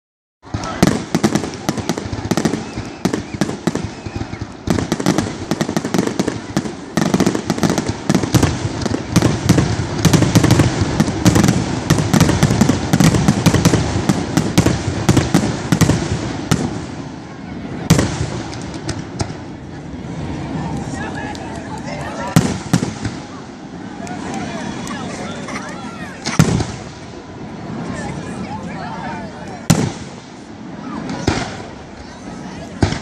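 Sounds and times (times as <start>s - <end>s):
fireworks popping and crackling: 0.4s - 33.0s.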